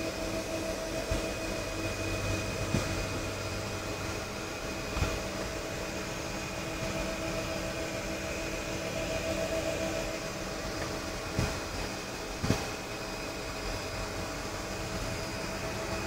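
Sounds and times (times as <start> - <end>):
airliner hum and whine: 0.0 - 16.0.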